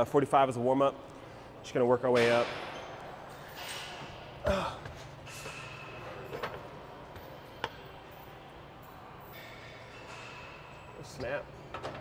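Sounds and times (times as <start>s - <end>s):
steady gym hum: 0.0s - 12.0s.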